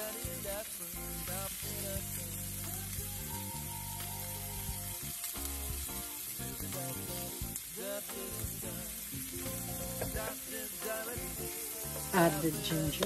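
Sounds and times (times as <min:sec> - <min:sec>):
background music with gliding notes: 0:00.0 - 0:13.0
onion sizzling in oil: 0:00.0 - 0:13.0.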